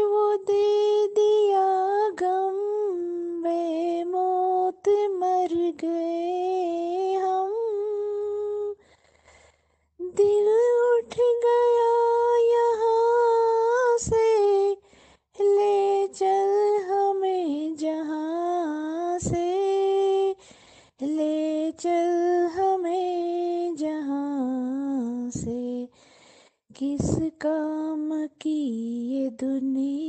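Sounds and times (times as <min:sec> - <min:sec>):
woman singing unaccompanied: 0:00.0 - 0:08.8, 0:10.0 - 0:14.8, 0:15.4 - 0:20.4, 0:21.0 - 0:26.0, 0:26.7 - 0:30.0.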